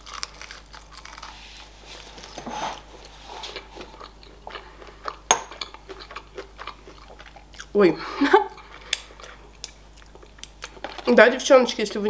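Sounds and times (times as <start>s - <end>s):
chewing crispy fried chicken: 0.0s - 11.2s.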